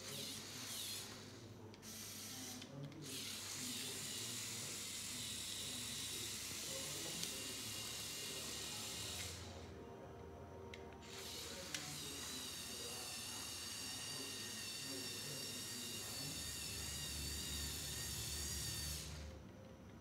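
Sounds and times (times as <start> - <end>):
toy electric motor whining: 0.0 - 9.7, 11.0 - 19.4.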